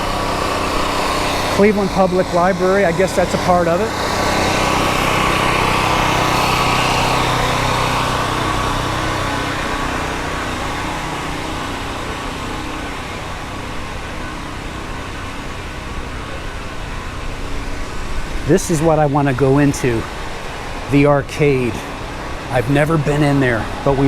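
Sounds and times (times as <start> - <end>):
city traffic hum: 0.0 - 24.0
vehicle engine running nearby: 0.0 - 24.0.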